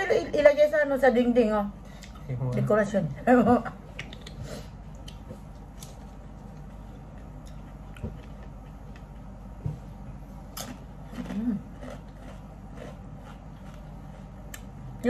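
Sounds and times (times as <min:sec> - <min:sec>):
low background hum: 0:00.0 - 0:15.0
closed-mouth hum while chewing: 0:01.8 - 0:15.0.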